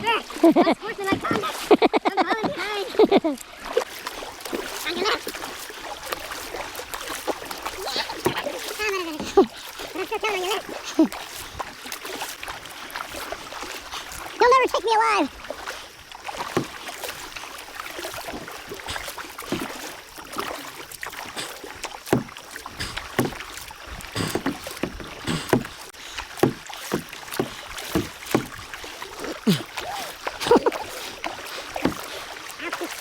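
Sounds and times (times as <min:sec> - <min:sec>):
paddle strokes splashing water: 0:00.0 - 0:33.0
hiss of moving water: 0:03.6 - 0:33.0.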